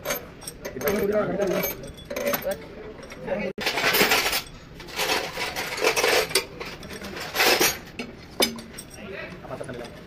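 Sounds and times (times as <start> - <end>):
metal tools clinking and scraping: 0.0 - 10.0.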